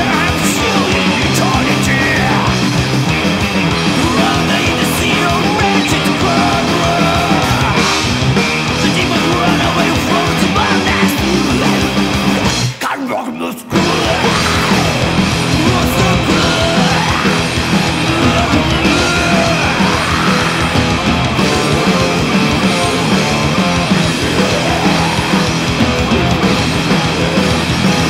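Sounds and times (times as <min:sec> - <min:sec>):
thrash metal music: 0:00.0 - 0:12.8, 0:13.7 - 0:28.0.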